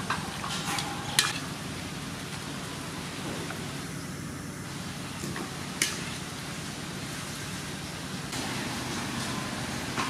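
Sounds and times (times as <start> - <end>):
water boiling in a wok: 0.0 - 10.0.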